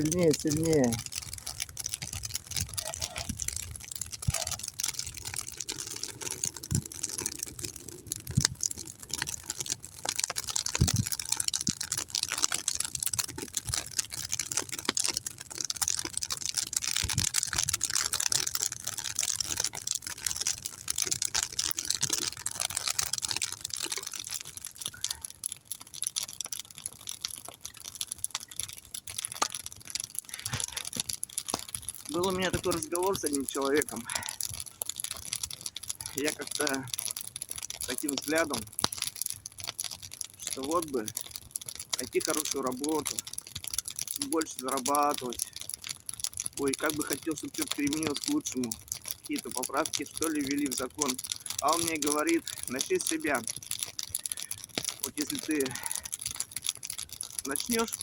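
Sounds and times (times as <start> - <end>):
campfire crackling: 0.0 - 58.0
loud fire snaps: 0.0 - 58.0.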